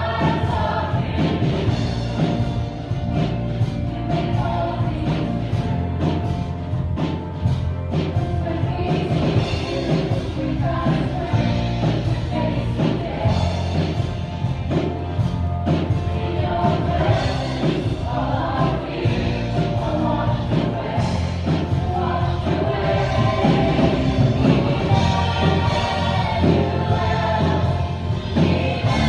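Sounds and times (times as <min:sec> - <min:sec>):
bass line and beat: 0:00.0 - 0:29.0
electronic keyboard: 0:00.0 - 0:29.0.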